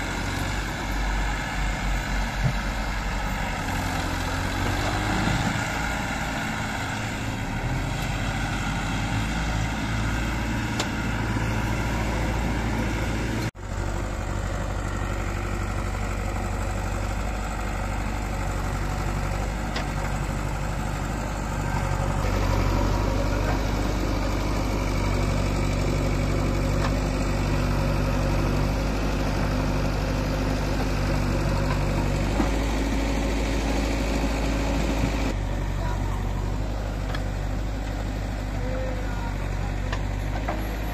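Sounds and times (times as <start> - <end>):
diesel engines idling: 0.0 - 40.9.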